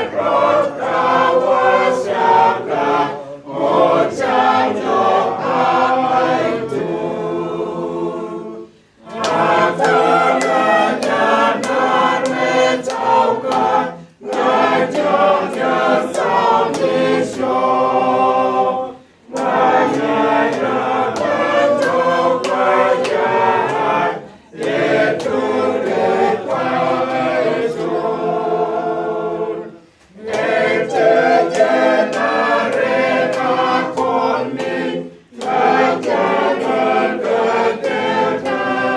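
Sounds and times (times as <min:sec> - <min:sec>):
choir singing unaccompanied: 0:00.0 - 0:38.9.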